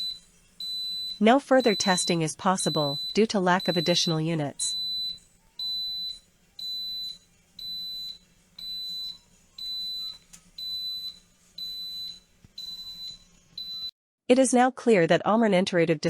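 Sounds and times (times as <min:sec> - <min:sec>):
electronic buzzer beeping: 0:00.0 - 0:13.9.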